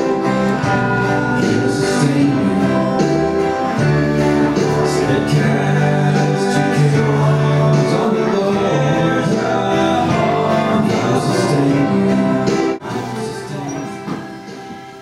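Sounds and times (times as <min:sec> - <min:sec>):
guitar accompaniment: 0:00.0 - 0:15.0
person singing: 0:00.0 - 0:15.0.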